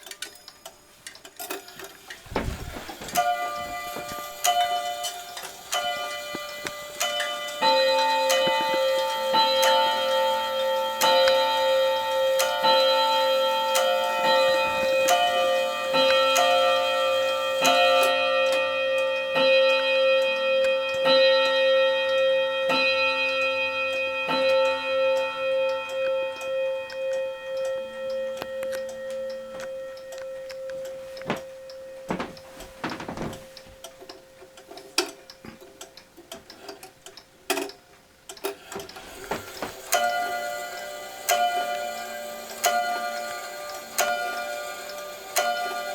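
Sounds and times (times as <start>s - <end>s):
mantel clock chime: 1.5s - 35.5s, 38.9s - 45.9s.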